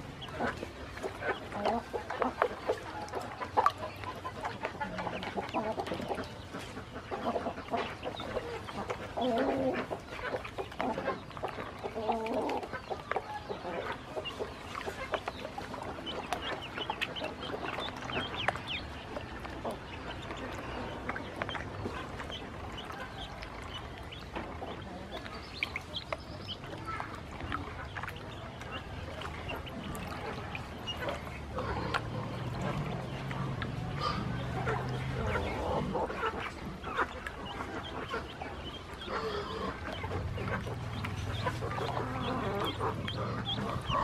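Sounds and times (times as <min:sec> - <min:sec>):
ducklings peeping: 0:00.0 - 0:44.0.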